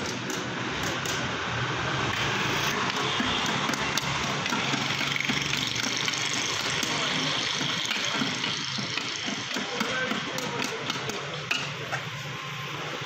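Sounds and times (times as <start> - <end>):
roadside traffic noise: 0.0 - 13.0.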